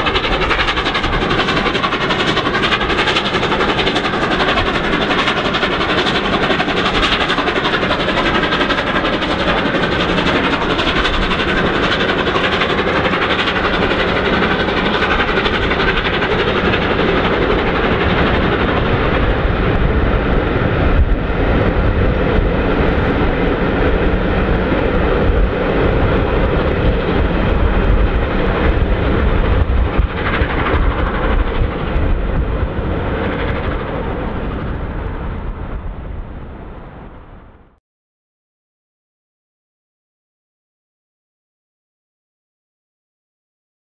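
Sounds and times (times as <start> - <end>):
steam locomotive pulling away: 0.0 - 35.2
coaches rolling on rails: 0.0 - 35.9.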